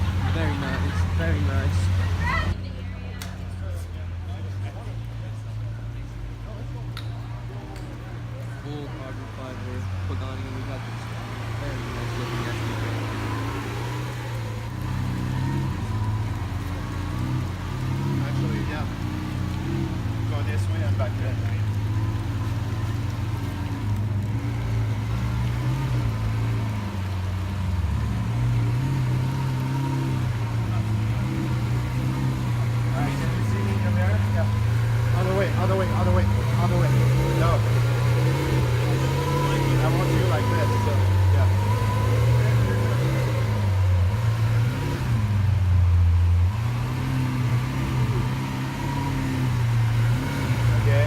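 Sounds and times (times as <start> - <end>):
car engine running at low revs: 0.0 - 51.0.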